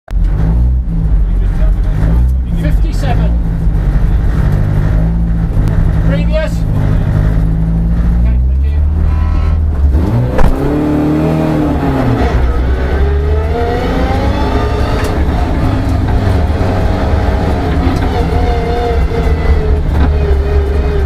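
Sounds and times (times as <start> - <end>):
car engine revving: 0.1 - 21.0.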